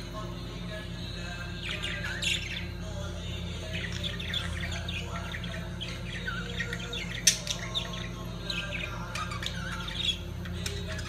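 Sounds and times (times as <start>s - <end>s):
budgerigars chattering and warbling: 0.0s - 11.0s.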